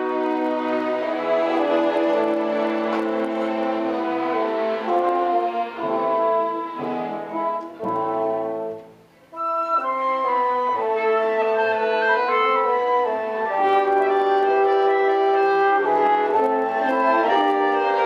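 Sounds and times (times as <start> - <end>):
orchestra playing slow chords: 0.0 - 18.0.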